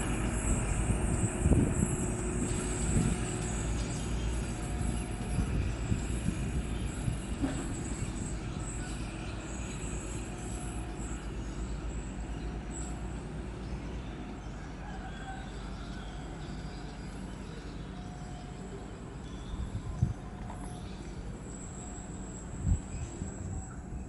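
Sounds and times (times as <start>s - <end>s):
train rumbling on tracks: 0.0s - 24.0s.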